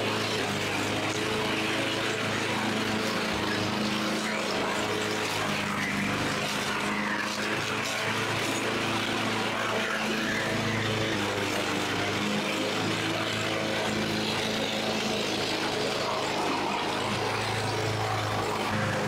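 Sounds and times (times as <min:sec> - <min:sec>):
lawn mower cutting grass: 0:00.0 - 0:19.0.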